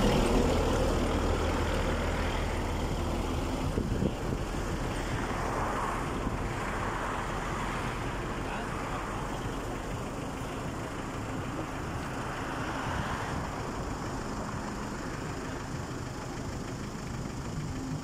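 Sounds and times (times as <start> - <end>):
road noise: 0.0 - 18.0
vehicle engine humming: 0.0 - 18.0.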